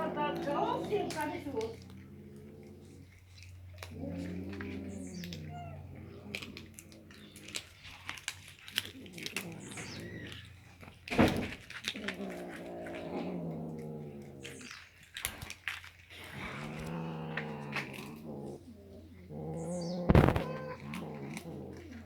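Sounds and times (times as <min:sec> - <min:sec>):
cat growling: 0:00.0 - 0:22.0
cats chewing fish: 0:00.0 - 0:22.0.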